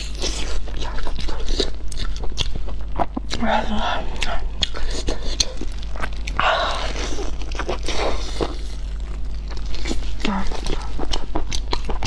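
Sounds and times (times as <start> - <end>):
wet chewing mouth sounds: 0.0 - 12.0.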